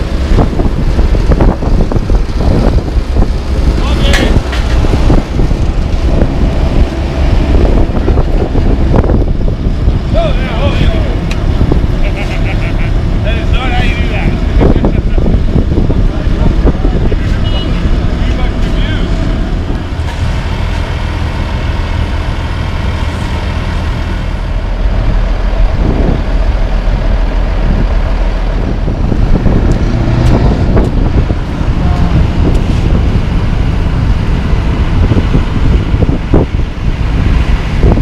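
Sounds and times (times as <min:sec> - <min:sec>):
heavy diesel engines running: 0:00.0 - 0:38.0
wind gusts on microphone: 0:00.0 - 0:38.0.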